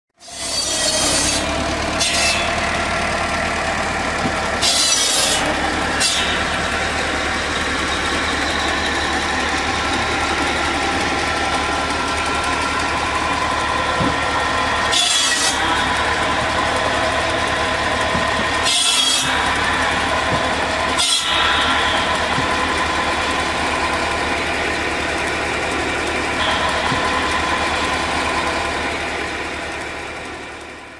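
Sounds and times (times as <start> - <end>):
circular saw blade humming: 0.2 - 30.9
saw cutting through log: 0.2 - 30.9
tractor diesel engine running: 0.2 - 30.9.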